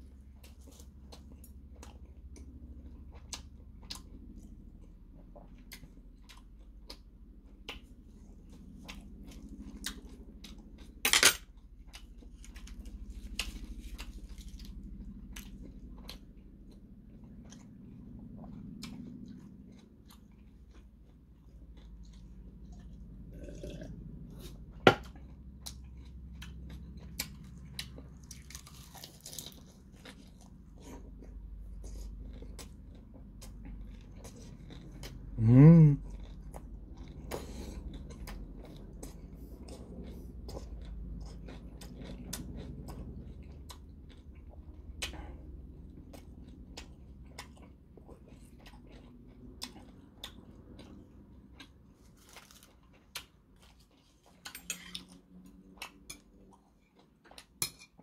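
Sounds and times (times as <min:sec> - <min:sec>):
chewing and biting food: 0:00.0 - 0:35.4, 0:36.0 - 0:58.0.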